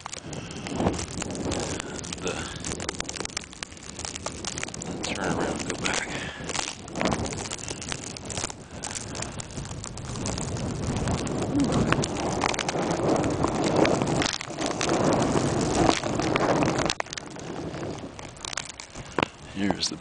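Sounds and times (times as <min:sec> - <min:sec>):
clicks and rustles of plastic: 0:00.0 - 0:20.0
wind gusting against microphone: 0:00.0 - 0:20.0.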